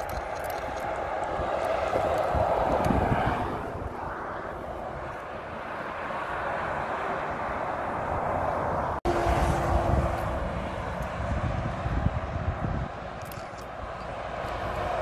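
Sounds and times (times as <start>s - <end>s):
lorries passing on motorway: 0.0s - 15.0s.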